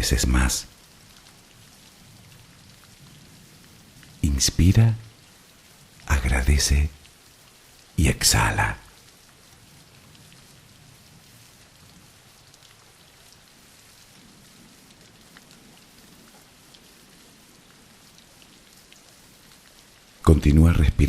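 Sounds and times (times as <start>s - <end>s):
gentle rain falling: 0.0s - 21.0s.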